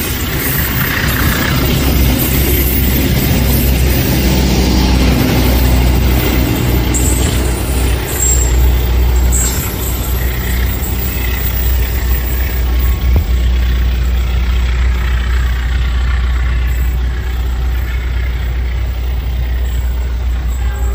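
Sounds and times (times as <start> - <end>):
train rumbling on rails: 0.0 - 20.9.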